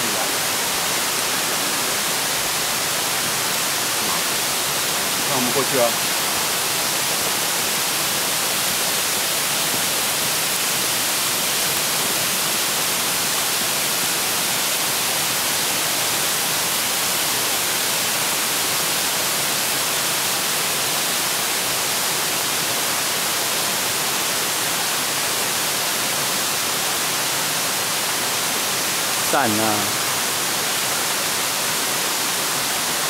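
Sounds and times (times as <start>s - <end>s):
waterfall pouring: 0.0s - 33.0s.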